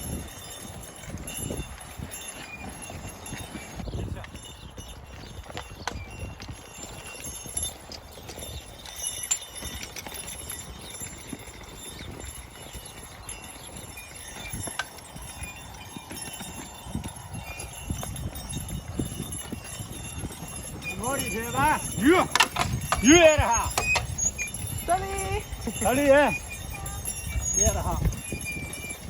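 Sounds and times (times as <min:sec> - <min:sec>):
horse hoofbeats: 0:00.0 - 0:29.0.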